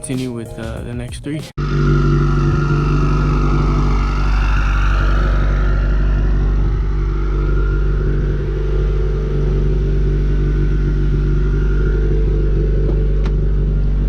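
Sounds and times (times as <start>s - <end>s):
car engine idling: 1.6s - 14.0s.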